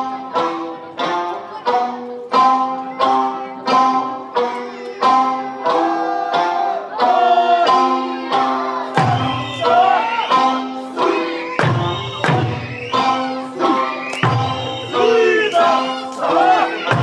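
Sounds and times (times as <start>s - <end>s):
plucked lute notes: 0.0s - 17.0s.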